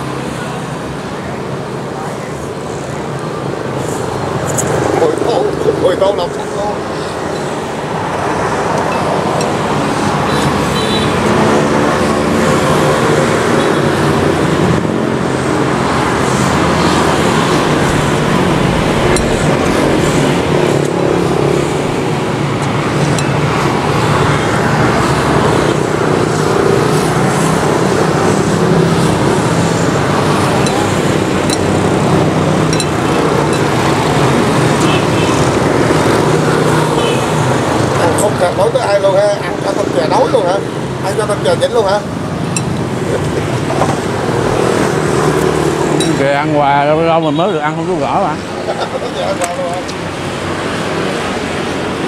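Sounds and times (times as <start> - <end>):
road traffic noise: 0.0 - 52.0
vehicle engines passing: 0.0 - 52.0.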